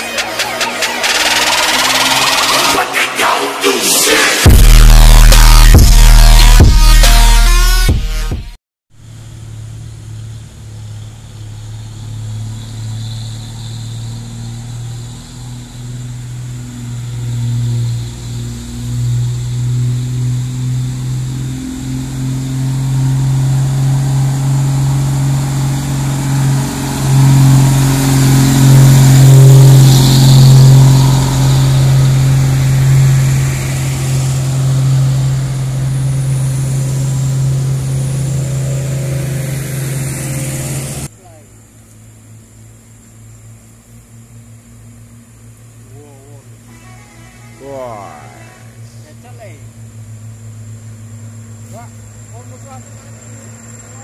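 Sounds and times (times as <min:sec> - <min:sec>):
diesel truck engines labouring: 0:00.0 - 0:07.3, 0:09.0 - 0:54.0.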